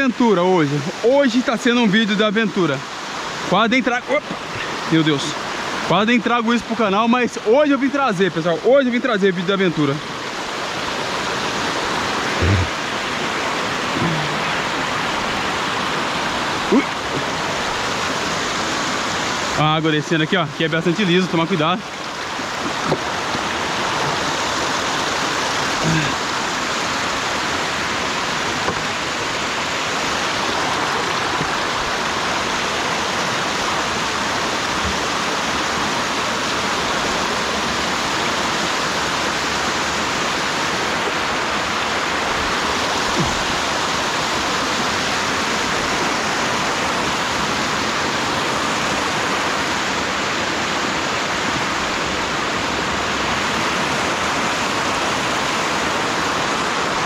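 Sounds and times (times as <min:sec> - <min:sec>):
water rushing down rocky stream: 0:00.0 - 0:57.0.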